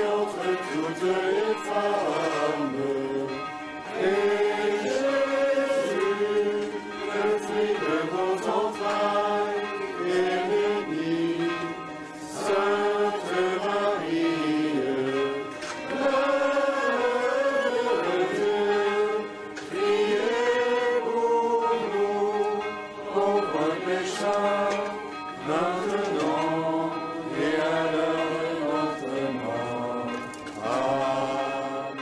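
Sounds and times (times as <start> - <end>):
crowd singing in unison: 0.0 - 32.0.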